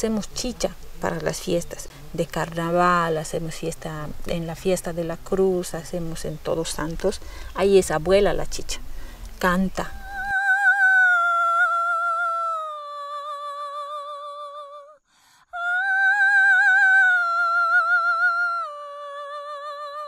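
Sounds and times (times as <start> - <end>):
woman singing unaccompanied: 0.0 - 8.8, 9.4 - 20.0.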